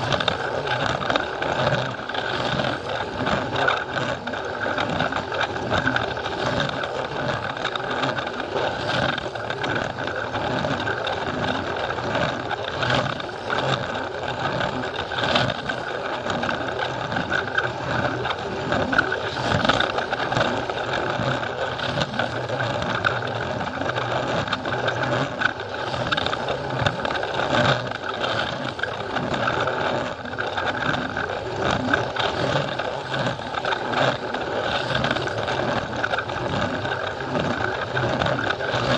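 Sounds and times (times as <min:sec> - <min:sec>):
toy train motor whirring: 0:00.0 - 0:38.9
wheels clicking and rattling: 0:00.0 - 0:38.9.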